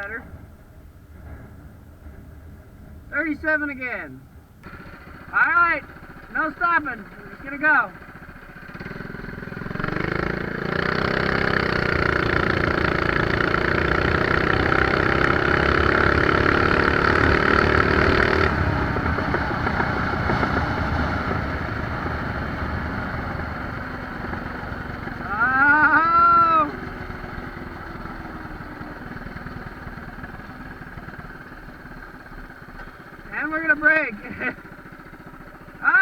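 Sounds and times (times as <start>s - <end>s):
wind and rolling noise: 0.0s - 7.4s, 8.0s - 33.3s
mini bike engine at full throttle: 4.6s - 36.0s.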